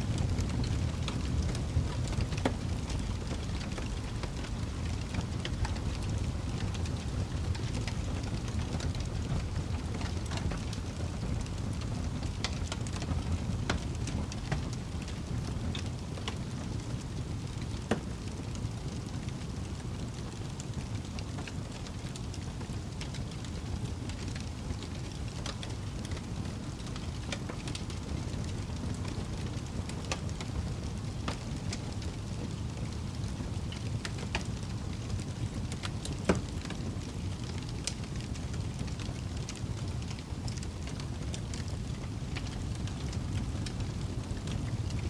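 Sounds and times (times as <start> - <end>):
rumble of flames: 0.0 - 45.0
burning wood popping and snapping: 0.1 - 45.0.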